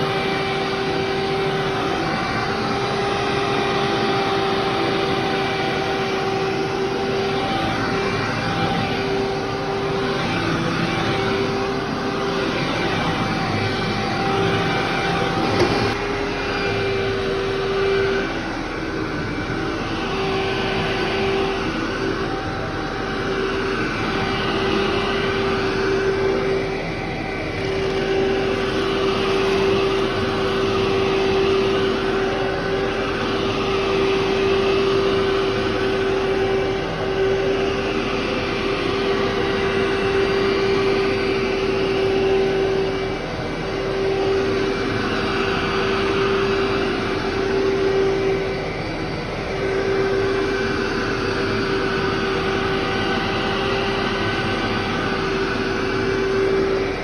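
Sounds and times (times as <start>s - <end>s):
vacuum cleaner on carpet: 0.0s - 57.0s.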